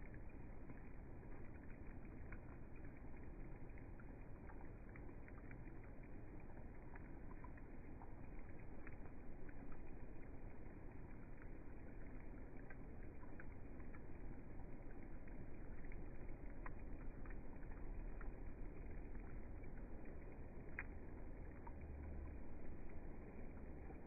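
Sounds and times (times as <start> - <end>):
rain hiss: 0.0 - 24.0
raindrops ticking: 0.0 - 24.0.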